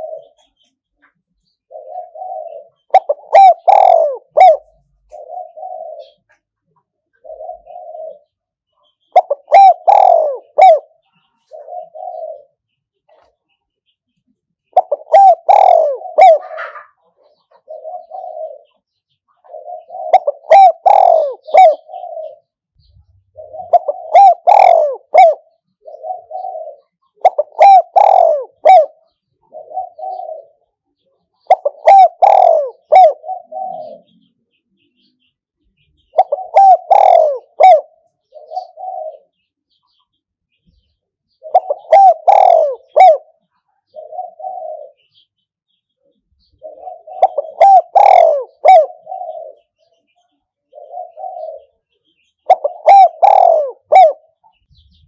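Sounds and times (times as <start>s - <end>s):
dove cooing: 0.0s - 13.4s, 14.7s - 35.1s, 35.7s - 40.0s, 40.7s - 45.4s, 46.0s - 55.0s.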